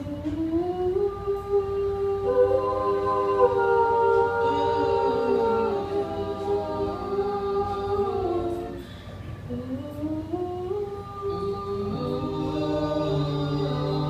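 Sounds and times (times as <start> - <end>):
a cappella group singing in harmony: 0.0 - 14.0.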